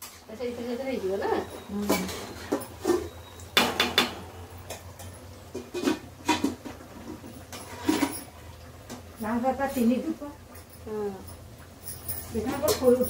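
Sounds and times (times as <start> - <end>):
metal utensils clinking on woks: 0.0 - 13.0.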